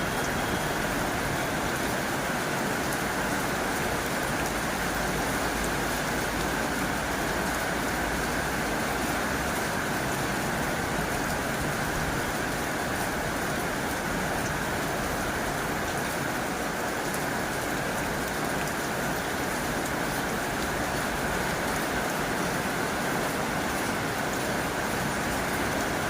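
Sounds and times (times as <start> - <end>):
heavy rain on a tin roof: 0.0 - 26.0.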